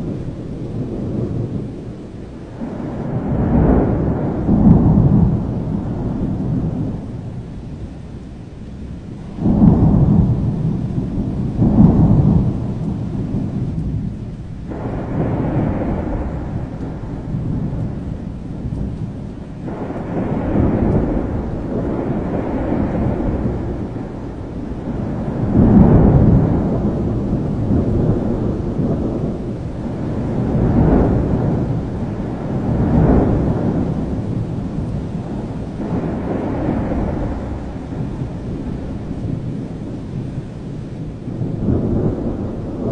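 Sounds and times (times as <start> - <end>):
steady rain: 0.0 - 42.9
thunder rumbling: 0.0 - 42.9.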